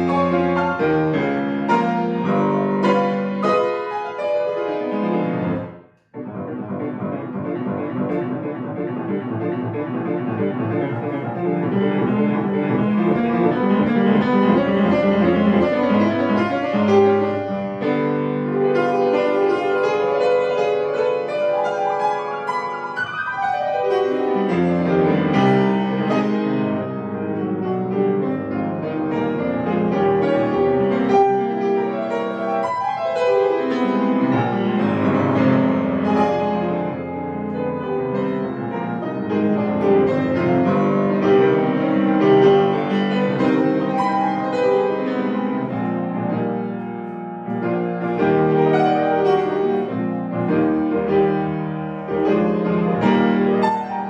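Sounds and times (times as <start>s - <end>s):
solo piano classical piece: 0.0s - 54.0s.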